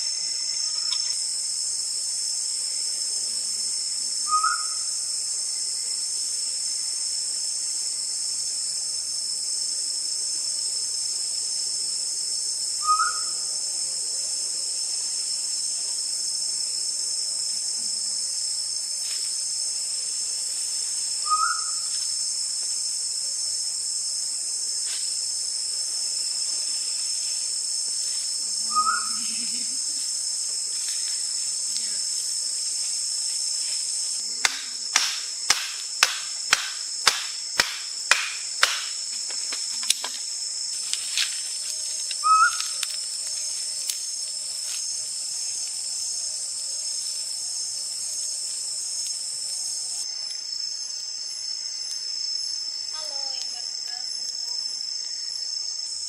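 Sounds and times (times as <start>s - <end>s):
insects and crickets droning: 0.0s - 56.0s.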